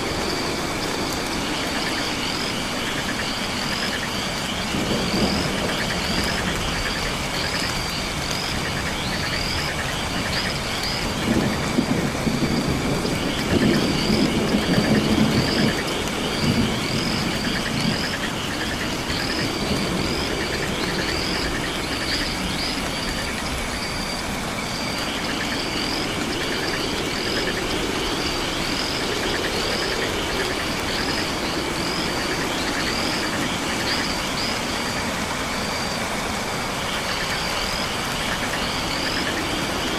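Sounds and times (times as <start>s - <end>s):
frogs and insects chirping: 0.0s - 39.9s
rain-like hiss: 0.0s - 39.9s.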